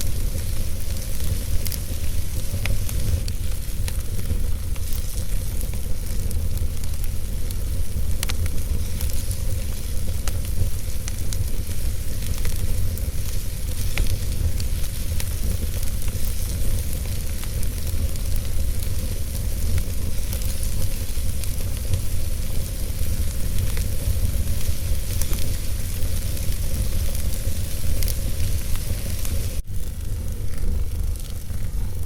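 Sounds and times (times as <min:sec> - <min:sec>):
fire crackling and popping: 0:00.0 - 0:32.0
wood fire rumbling and hissing: 0:00.0 - 0:32.0.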